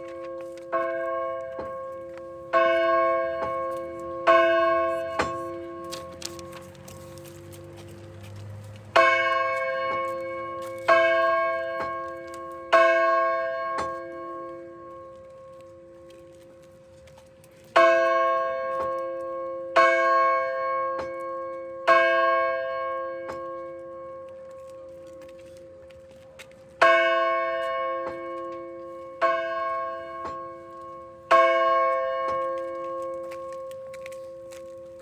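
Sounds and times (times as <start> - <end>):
church bell ringing: 0.0 - 7.2, 8.9 - 16.7, 17.7 - 25.0, 26.8 - 35.0.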